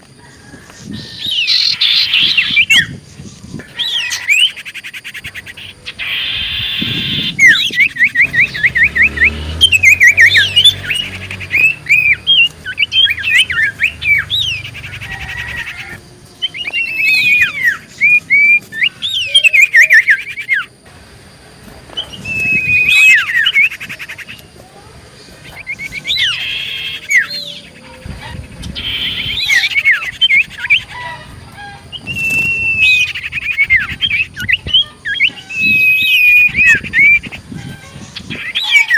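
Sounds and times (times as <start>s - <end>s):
bird chirping and trilling: 0.2s - 20.8s, 21.4s - 38.9s.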